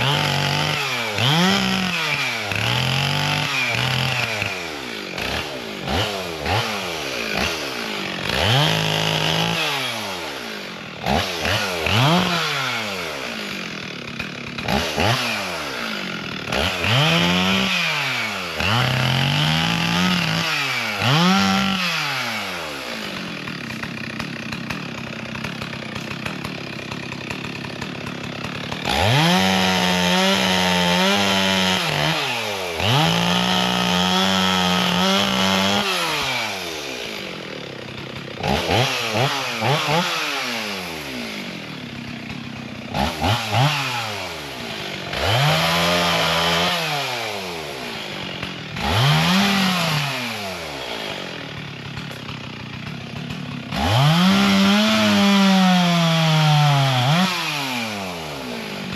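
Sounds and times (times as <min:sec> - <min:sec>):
chainsaw revving cutting wood: 0:00.0 - 0:58.9.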